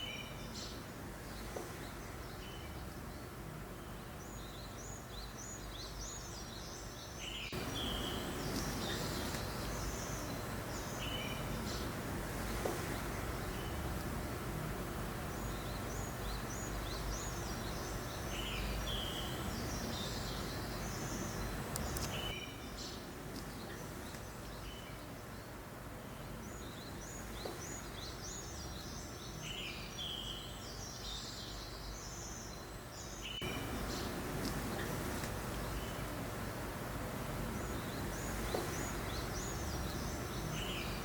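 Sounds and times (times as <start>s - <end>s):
breeze rustling through forest: 0.0s - 41.0s
songbirds chirping: 0.0s - 41.0s.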